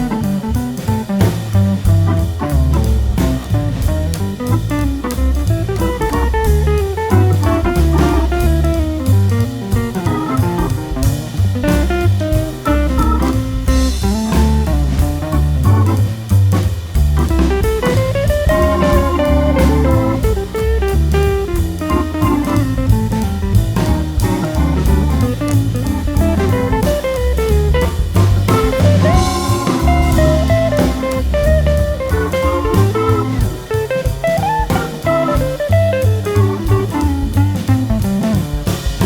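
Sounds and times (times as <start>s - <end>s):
blues band music: 0.0s - 39.0s.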